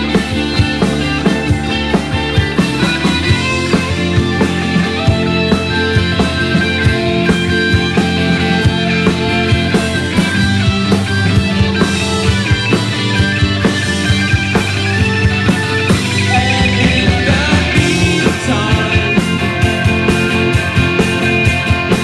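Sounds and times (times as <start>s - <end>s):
bass guitar: 0.0s - 22.0s
drum kit steady beat: 0.0s - 22.0s
electric guitar: 0.0s - 22.0s
keyboard: 0.0s - 22.0s.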